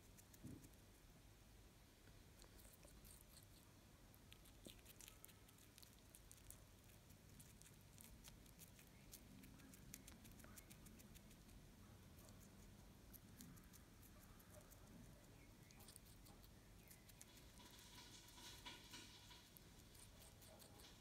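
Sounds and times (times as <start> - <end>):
hamster crunching cucumber: 0.0 - 1.1, 2.0 - 21.0.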